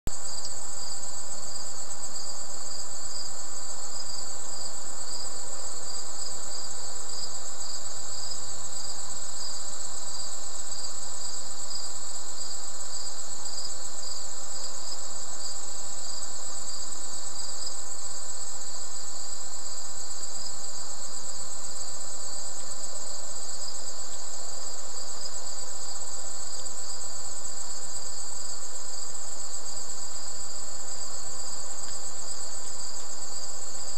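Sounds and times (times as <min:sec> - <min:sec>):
crickets trilling: 0:00.1 - 0:33.9.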